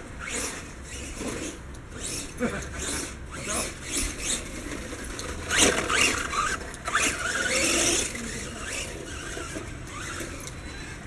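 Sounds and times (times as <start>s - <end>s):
rc truck electric motor whining: 0.0s - 11.0s.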